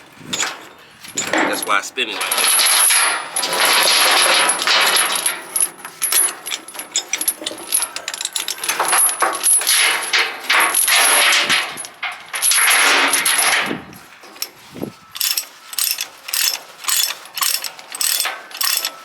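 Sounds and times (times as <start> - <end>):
metal chain clinking and rattling: 0.3 - 19.0.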